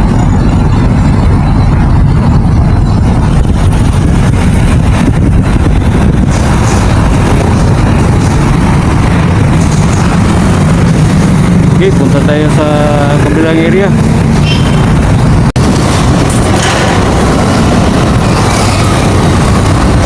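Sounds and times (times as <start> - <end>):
vehicle road and wind rumble: 0.0 - 20.0.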